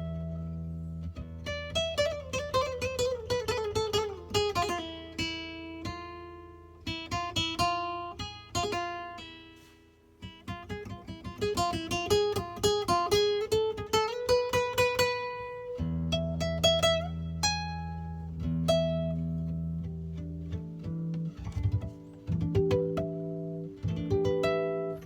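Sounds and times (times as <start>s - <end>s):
nylon-string guitar plucked: 0.0s - 25.0s.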